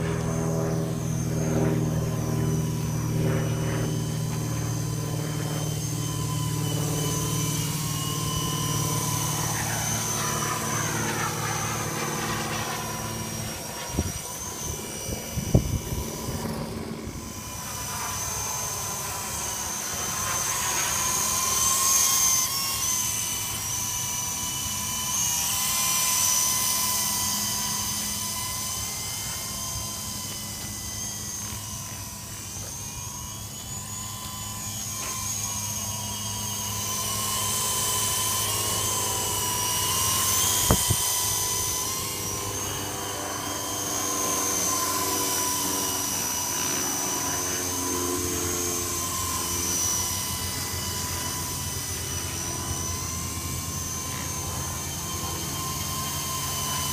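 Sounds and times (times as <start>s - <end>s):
toy helicopter motor whining: 0.0s - 56.9s.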